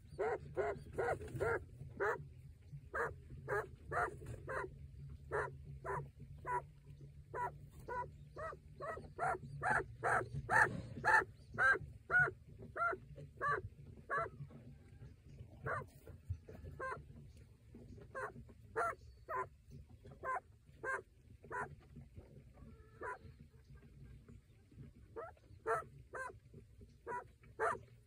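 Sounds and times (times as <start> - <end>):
quail growling calls: 0.0 - 21.9, 22.5 - 23.9, 25.0 - 28.0.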